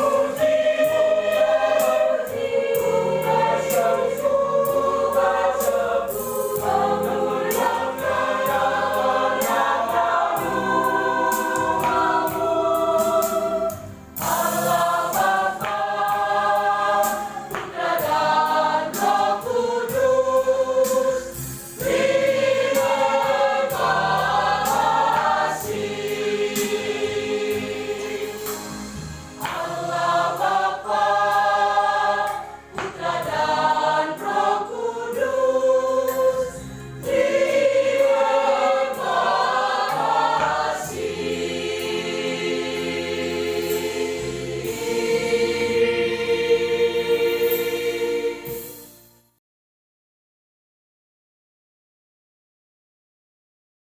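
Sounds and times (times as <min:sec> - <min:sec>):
choir singing in harmony: 0:00.0 - 0:49.0.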